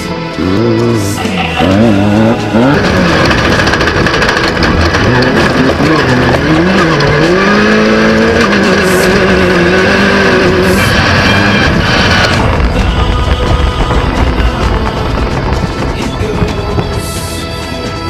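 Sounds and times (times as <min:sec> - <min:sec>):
race vehicle engine running: 0:00.0 - 0:18.0.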